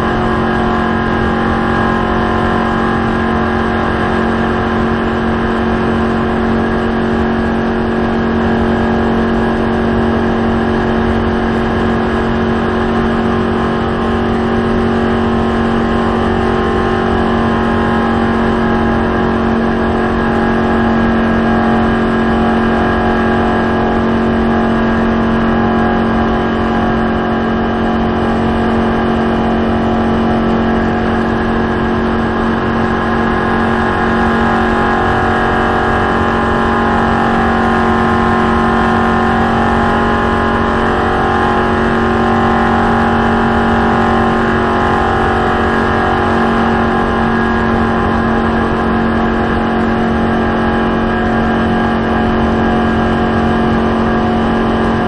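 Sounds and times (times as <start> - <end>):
race car engine at high speed: 0.0 - 55.0
wind and road noise: 0.0 - 55.0.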